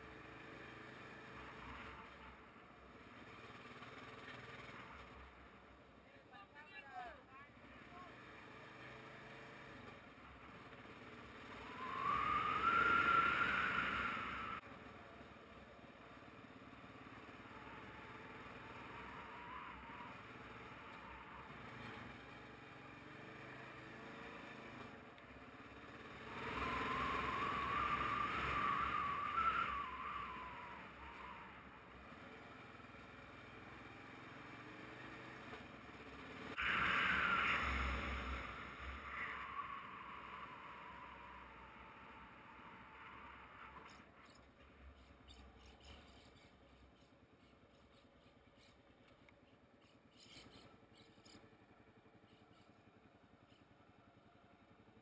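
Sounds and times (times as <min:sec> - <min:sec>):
motorcycle engine accelerating: 0:07.8 - 0:55.0.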